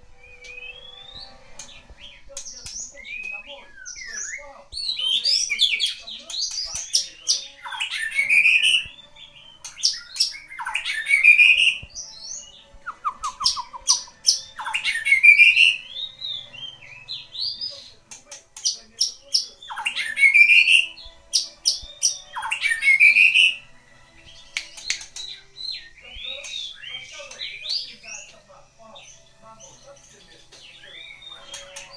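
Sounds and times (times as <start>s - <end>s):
bird singing: 0.0s - 31.9s.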